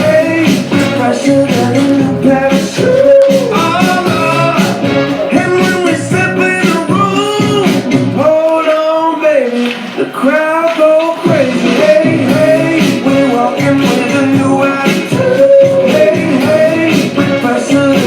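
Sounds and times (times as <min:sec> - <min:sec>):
upbeat pop song: 0:00.0 - 0:18.0.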